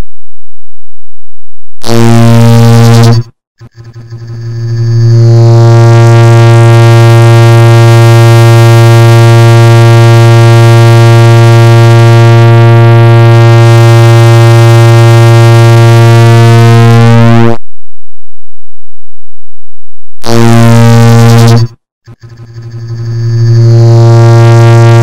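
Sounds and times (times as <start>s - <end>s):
loud low buzzing tone: 0.0s - 25.0s.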